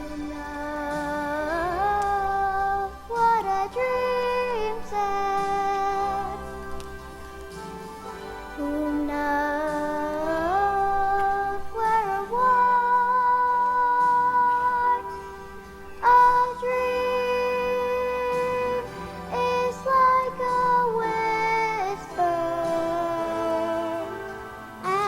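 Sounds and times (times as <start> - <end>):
song with long held sung notes: 0.0 - 25.0.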